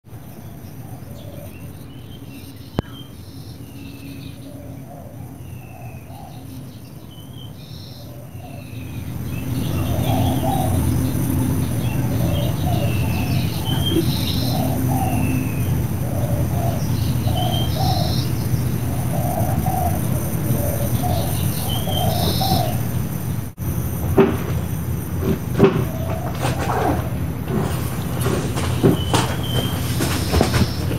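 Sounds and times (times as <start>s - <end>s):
birds calling: 0.1s - 30.9s.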